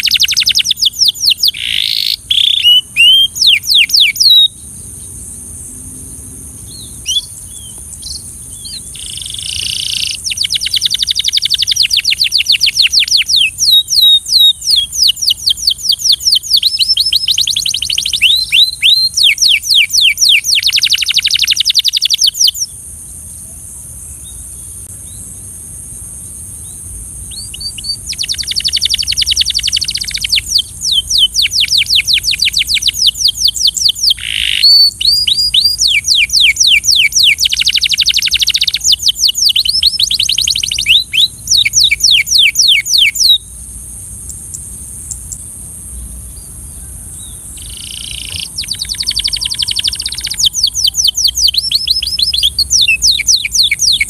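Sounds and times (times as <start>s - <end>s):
canary singing trills: 0.0s - 5.5s, 6.5s - 22.8s, 26.6s - 43.6s, 44.2s - 54.0s.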